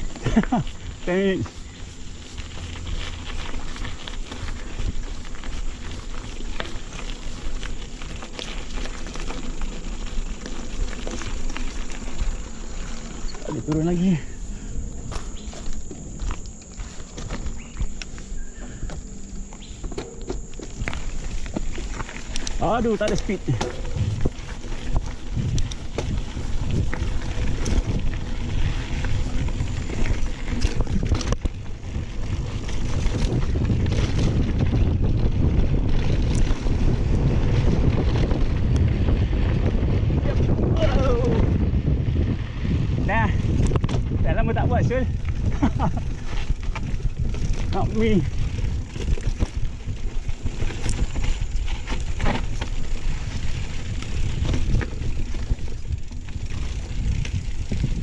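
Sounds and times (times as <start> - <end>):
bike rattling clicks: 0.0 - 41.6, 43.3 - 58.0
bike tyres on dirt trail: 0.0 - 58.0
wind buffeting microphone: 0.0 - 58.0.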